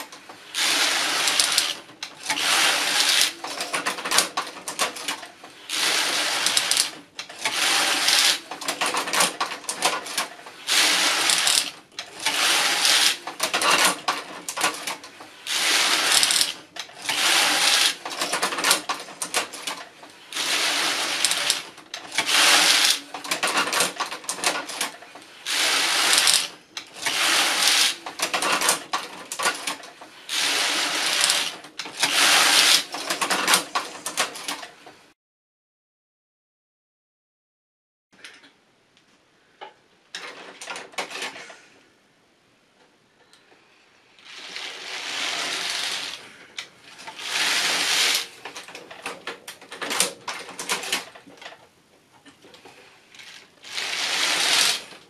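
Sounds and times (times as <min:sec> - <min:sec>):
knitting machine needles rattling: 0:00.0 - 0:35.0, 0:44.2 - 0:51.6, 0:52.2 - 0:55.0.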